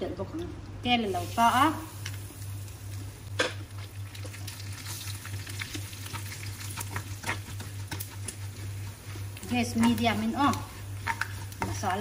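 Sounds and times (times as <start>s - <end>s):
steady low hum: 0.0s - 12.0s
onion sizzling in hot oil: 0.9s - 12.0s.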